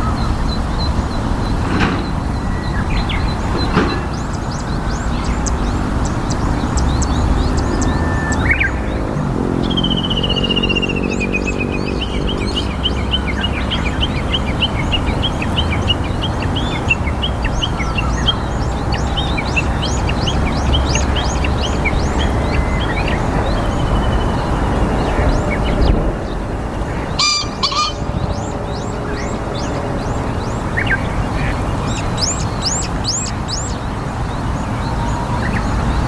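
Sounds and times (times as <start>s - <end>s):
bird trill: 0.0s - 26.0s, 26.9s - 33.8s
low engine-like hum: 0.0s - 36.0s
low rumble of wind or traffic: 0.0s - 36.0s
songbirds chirping: 0.0s - 36.0s.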